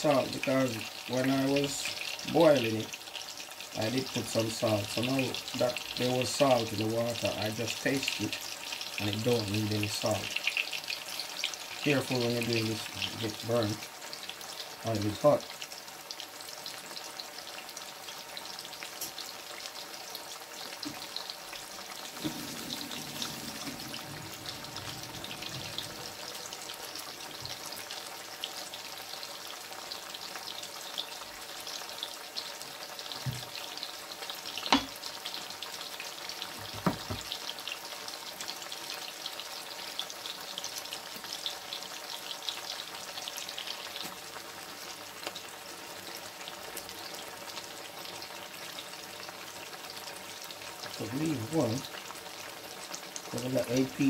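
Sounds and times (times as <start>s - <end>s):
food deep-frying in oil: 0.0s - 54.0s.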